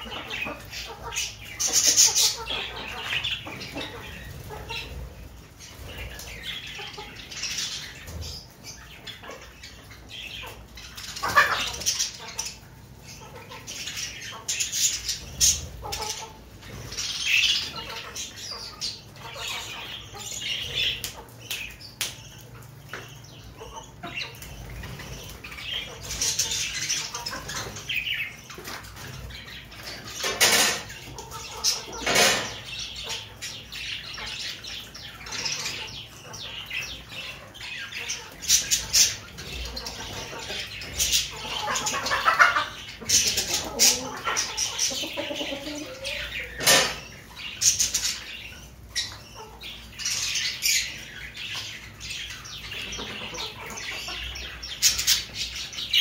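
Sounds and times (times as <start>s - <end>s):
birds tapping and rustling: 0.0s - 55.9s
chickens squawking and clucking: 0.0s - 56.0s.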